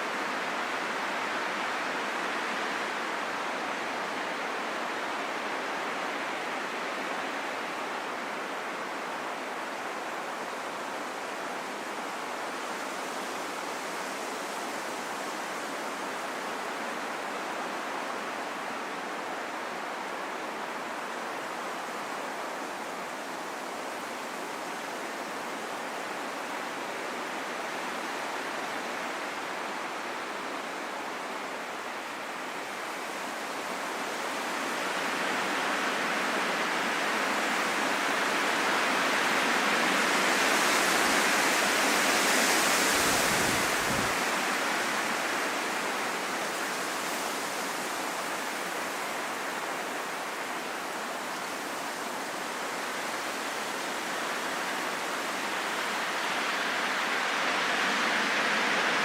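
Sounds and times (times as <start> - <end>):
steady wind: 0.0 - 59.0.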